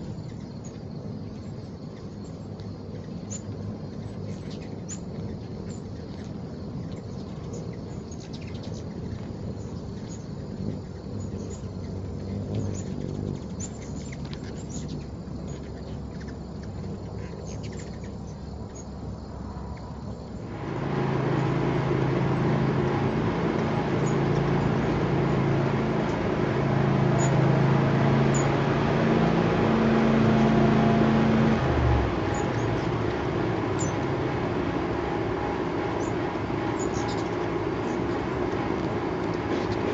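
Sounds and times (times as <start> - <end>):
hummingbird chip calls: 0.0 - 19.0, 20.3 - 39.9
hummingbird wings humming: 0.0 - 39.9.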